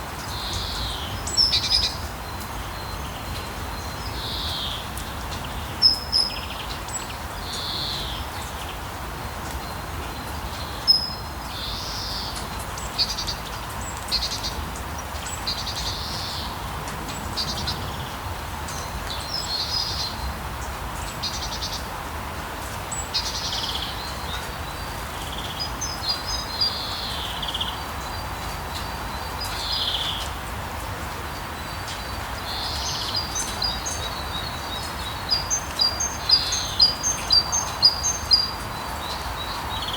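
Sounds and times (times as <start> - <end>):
steady rain falling: 0.0 - 39.9
birds singing: 0.2 - 22.0, 22.8 - 30.5, 31.2 - 39.9.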